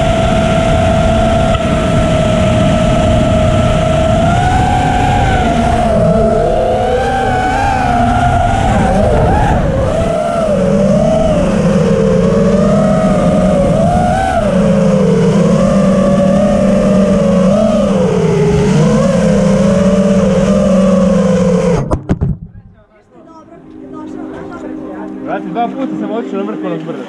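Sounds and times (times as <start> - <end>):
drone motors whining: 0.0 - 22.3, 23.4 - 27.0
wind rushing: 0.0 - 22.8.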